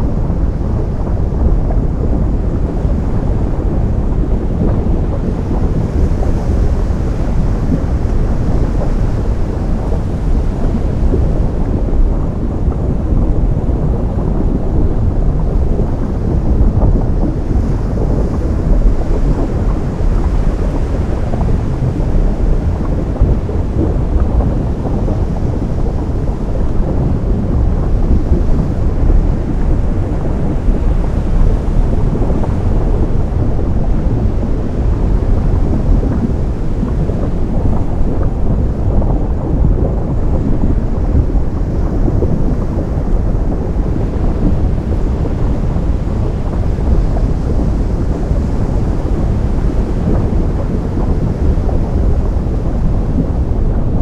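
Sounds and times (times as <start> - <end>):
ocean surf rumbling: 0.0 - 54.0.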